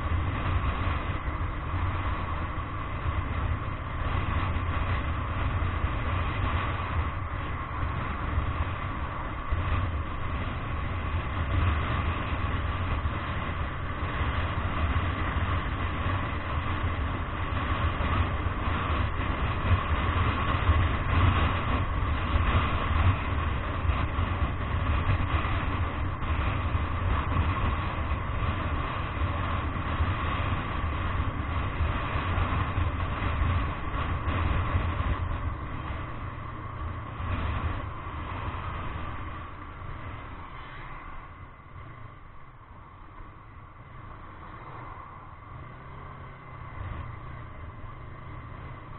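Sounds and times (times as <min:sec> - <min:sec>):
vehicle rumble from inside cabin: 0:00.0 - 0:48.9.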